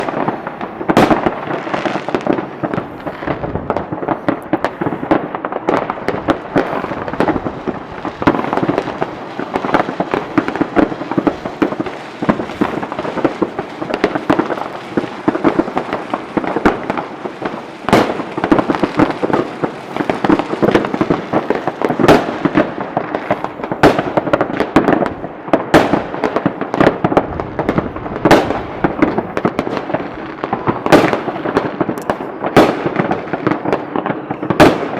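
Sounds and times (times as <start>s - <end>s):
fireworks crackling and banging: 0.0s - 34.9s.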